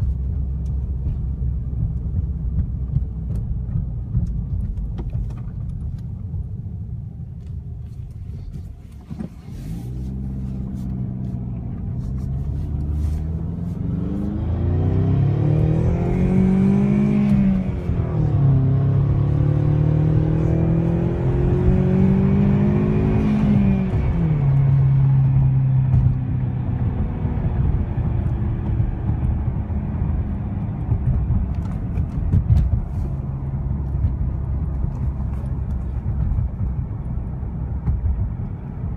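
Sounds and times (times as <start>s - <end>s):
car engine from inside cabin: 0.0s - 38.9s.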